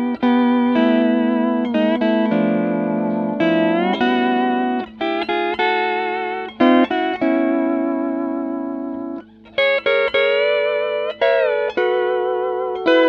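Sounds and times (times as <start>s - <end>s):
steel guitar playing: 0.0s - 13.0s.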